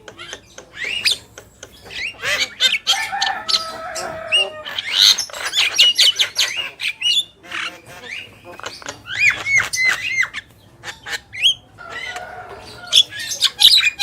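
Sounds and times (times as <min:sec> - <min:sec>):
mynas squawking and chattering: 0:00.0 - 0:14.0.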